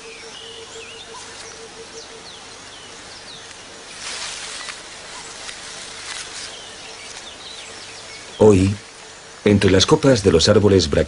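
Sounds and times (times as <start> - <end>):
bird chirps: 0.0 - 9.4.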